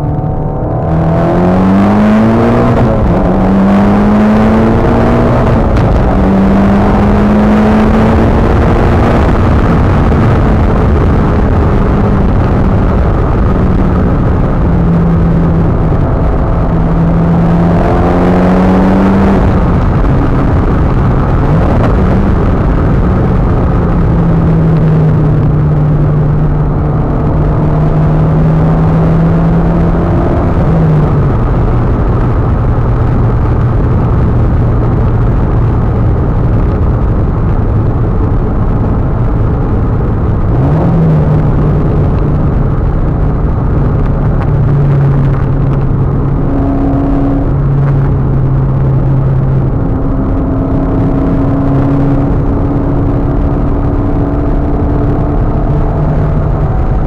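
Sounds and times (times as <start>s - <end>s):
car engine from inside cabin: 0.0s - 57.0s
tyre and road noise: 0.0s - 57.0s.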